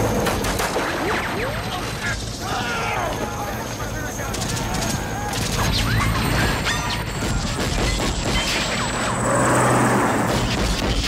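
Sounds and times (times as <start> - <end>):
gunshots: 0.0 - 11.0
low engine drone: 0.0 - 11.0
dense rush of noise: 1.6 - 11.0.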